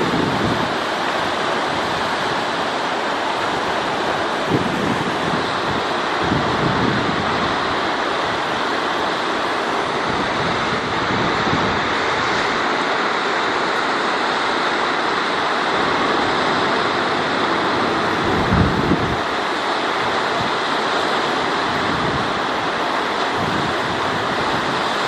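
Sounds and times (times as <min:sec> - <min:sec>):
river rapids rushing: 0:00.0 - 0:25.0.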